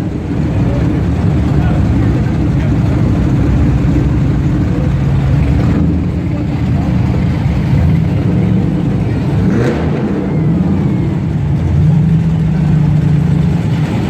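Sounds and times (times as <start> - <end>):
car engines running loud: 0.0 - 14.0.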